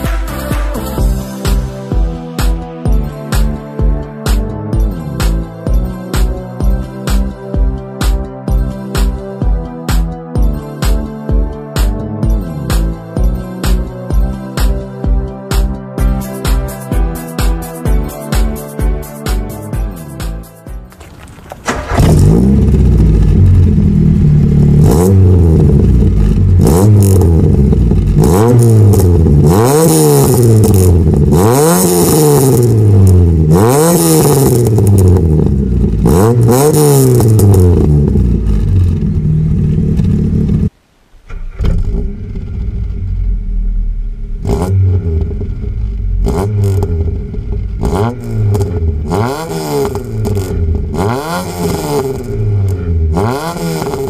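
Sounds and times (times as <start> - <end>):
car engine rev blips: 1.9 - 54.0.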